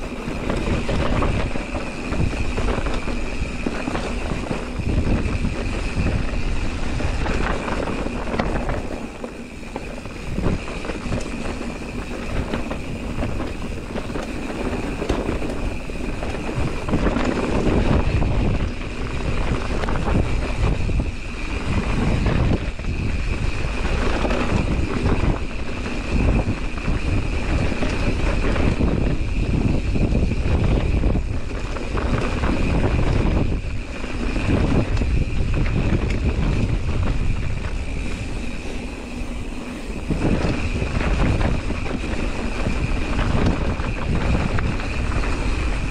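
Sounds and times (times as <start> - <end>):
bike chain and frame rattling: 0.0 - 45.9
bike tyres rolling over dirt: 0.0 - 45.9
wind rumble on microphone: 0.0 - 45.9.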